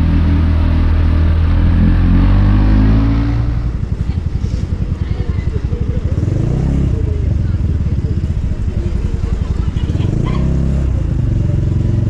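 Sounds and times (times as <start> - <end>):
motor scooter engine: 0.0 - 12.0.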